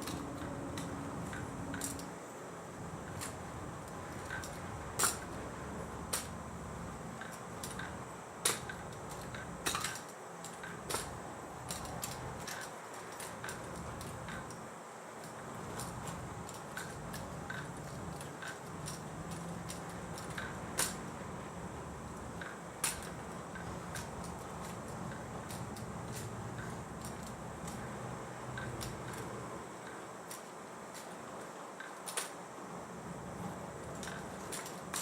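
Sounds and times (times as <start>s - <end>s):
room hum: 0.0s - 35.0s.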